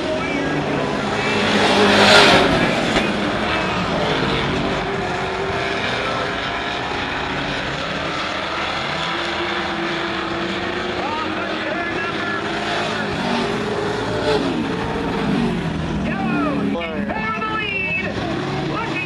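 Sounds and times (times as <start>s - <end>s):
race truck engines running: 0.0s - 19.0s
race truck passing close: 0.0s - 19.0s.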